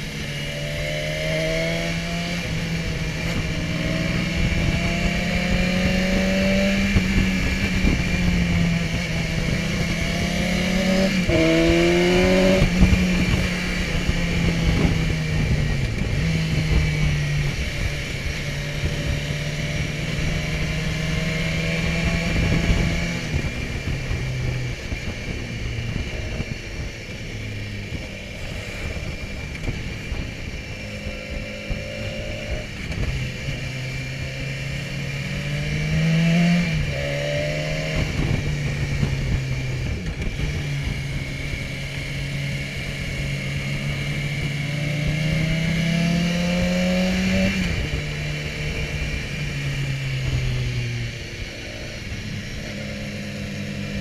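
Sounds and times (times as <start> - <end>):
motorcycle engine accelerating: 0.0 - 54.0
wind noise: 0.0 - 54.0.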